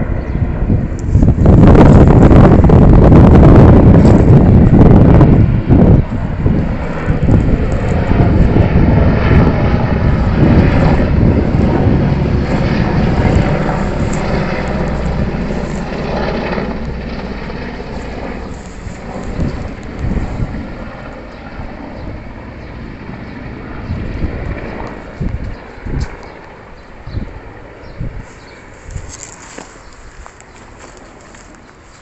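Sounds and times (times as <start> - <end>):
helicopter flying past: 0.0 - 32.0.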